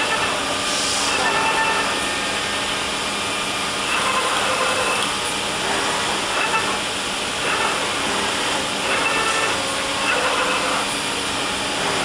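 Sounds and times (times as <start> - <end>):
fabric cutting machine hissing: 0.0 - 12.0.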